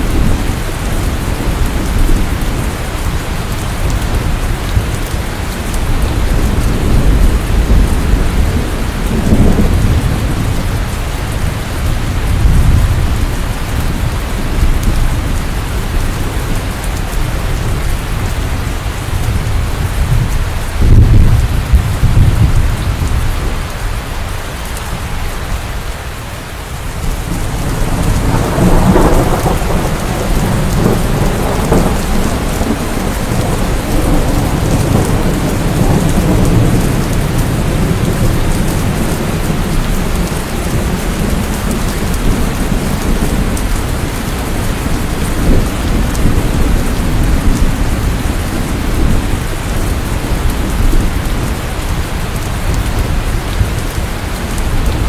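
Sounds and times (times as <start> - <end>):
thunder rumbling: 0.0 - 26.0, 26.6 - 55.0
heavy rain falling: 0.0 - 55.0.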